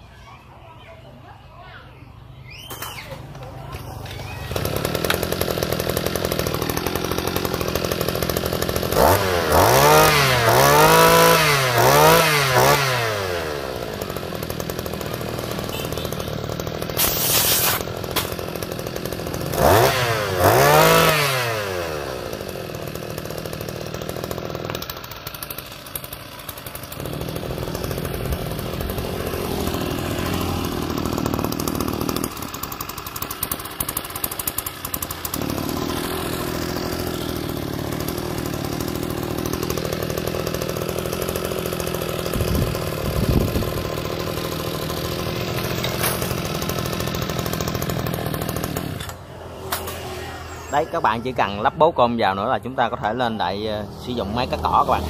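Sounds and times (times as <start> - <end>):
two-stroke trimmer engine revving: 3.1 - 55.0.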